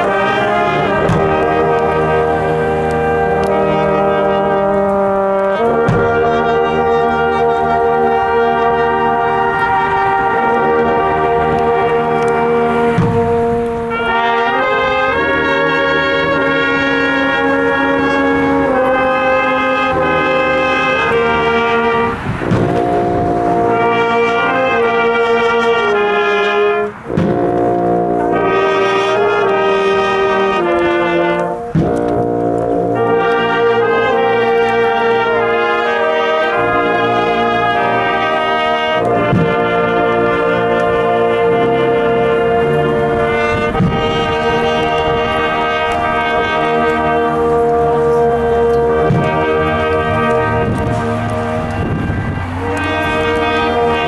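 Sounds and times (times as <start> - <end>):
brass band playing slow chords: 0.0 - 54.0.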